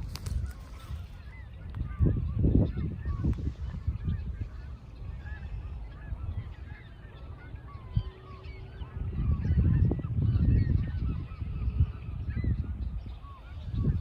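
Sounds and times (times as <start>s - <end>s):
geese honking: 0.2s - 14.0s.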